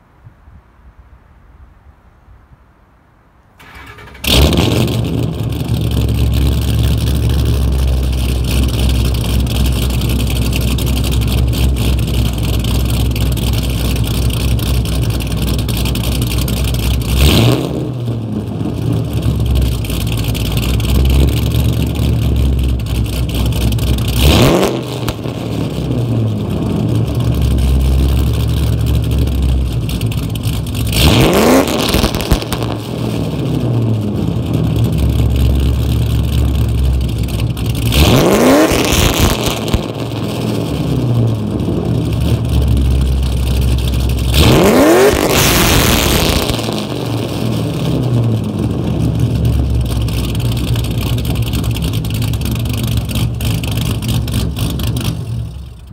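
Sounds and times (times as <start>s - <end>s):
car engine starting and idling: 3.5s - 55.9s
engine revving: 3.6s - 12.8s, 14.4s - 55.6s.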